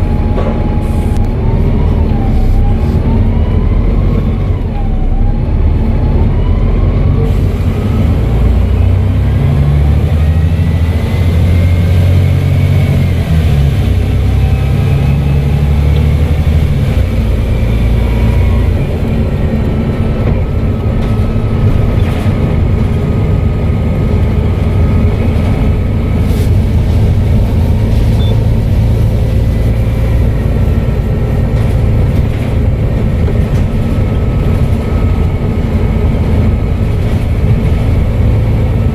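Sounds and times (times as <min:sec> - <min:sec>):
bus engine pulling under load: 0:00.0 - 0:38.9.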